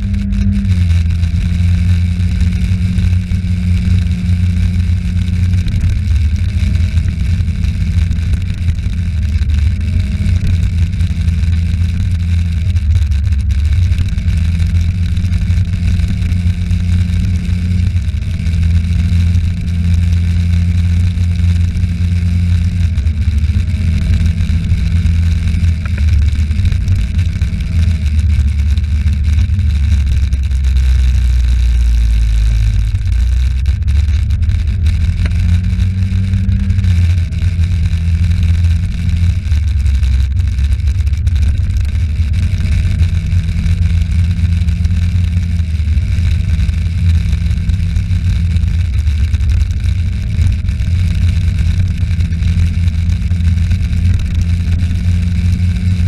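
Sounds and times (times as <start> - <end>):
vehicle engine driving: 0.0 - 56.0.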